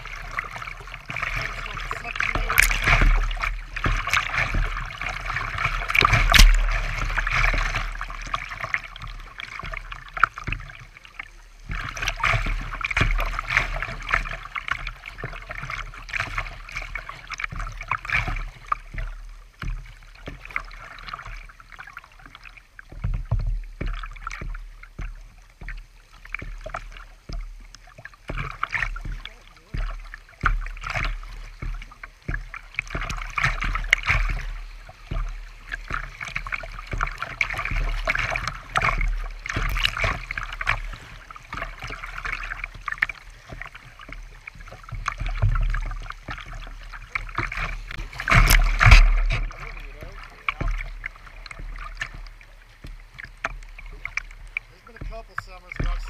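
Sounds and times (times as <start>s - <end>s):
creek water rushing and splashing: 0.0s - 56.0s
paddle splashes: 0.0s - 56.0s.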